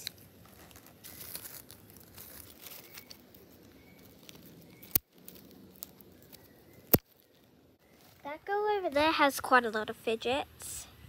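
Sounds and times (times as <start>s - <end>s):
rustling handling noise: 0.0s - 9.0s.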